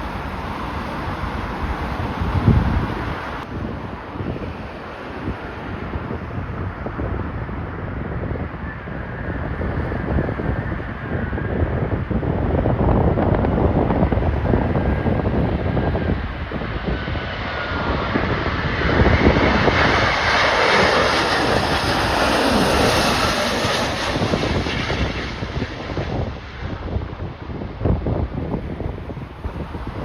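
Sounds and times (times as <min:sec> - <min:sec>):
jet airliner passing by: 0:00.0 - 0:30.0
wind buffeting microphone: 0:00.0 - 0:30.0.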